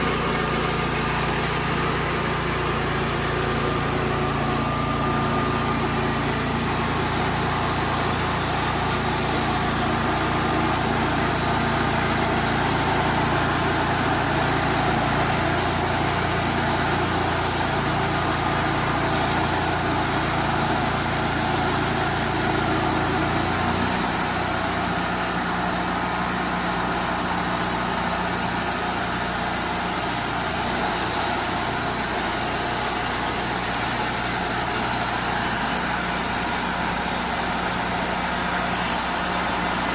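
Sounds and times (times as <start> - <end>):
saw cutting log: 0.0 - 39.9
sawmill engine running: 0.0 - 39.9.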